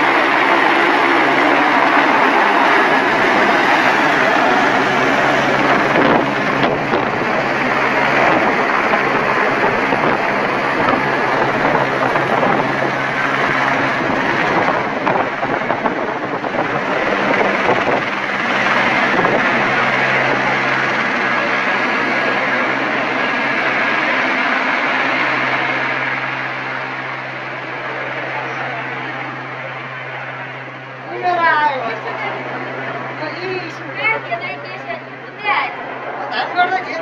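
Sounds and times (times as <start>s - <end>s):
helicopter rotor and turbine: 0.0s - 37.0s.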